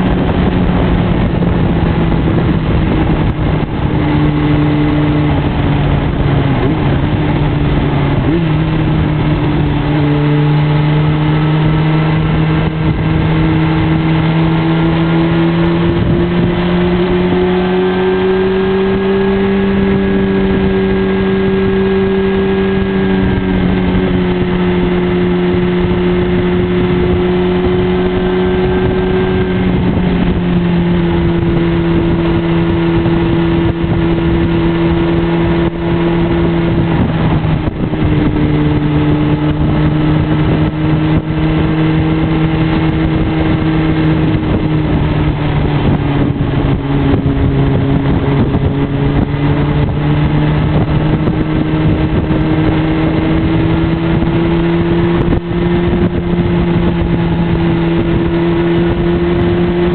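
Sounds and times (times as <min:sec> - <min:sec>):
motorcycle engine cruising: 0:00.0 - 0:59.9
road and wind noise: 0:00.0 - 0:59.9.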